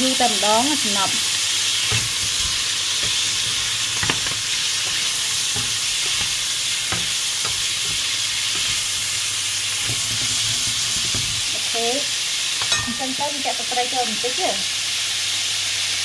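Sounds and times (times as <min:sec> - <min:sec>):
meat sizzling in oil: 0:00.0 - 0:16.0.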